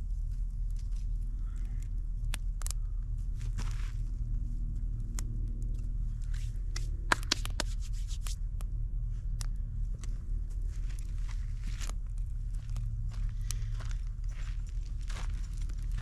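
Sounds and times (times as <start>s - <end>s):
campfire crackling: 0.0s - 16.0s
fire popping: 0.0s - 16.0s
steady low hum: 0.0s - 16.0s.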